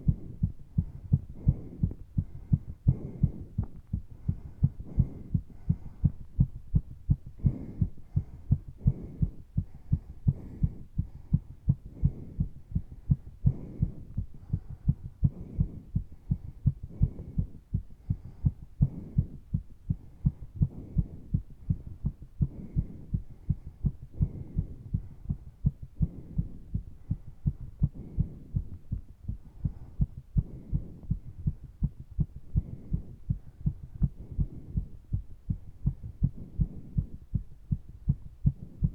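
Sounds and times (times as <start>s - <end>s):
heavy breathing: 0.0s - 37.5s
heart pounding: 0.0s - 38.9s.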